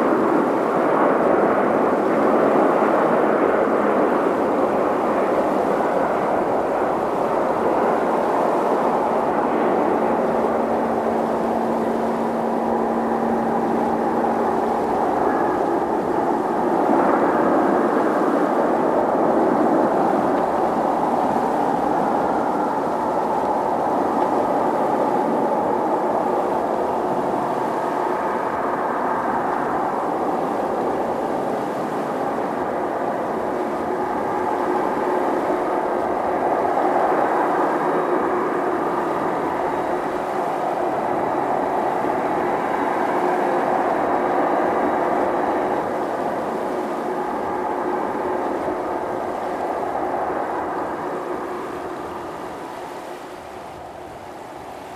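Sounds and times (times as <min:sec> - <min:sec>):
jet engines roaring with whine: 0:00.0 - 0:54.9.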